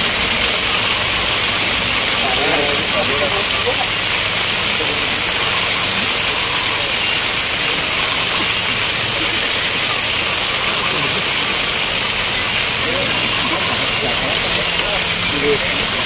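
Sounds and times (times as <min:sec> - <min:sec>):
faint voices murmuring: 0:00.0 - 0:16.0
rain hissing: 0:00.0 - 0:16.0.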